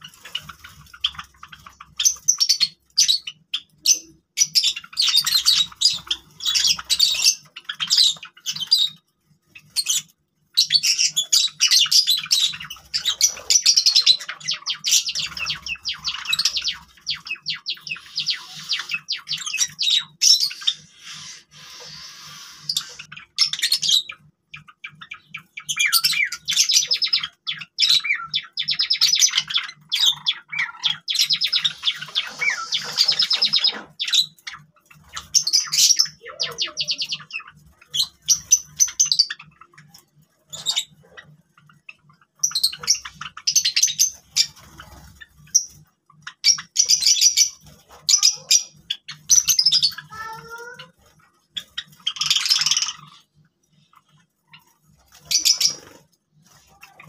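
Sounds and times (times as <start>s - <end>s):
sparrows chirping and chattering: 0.0s - 57.0s.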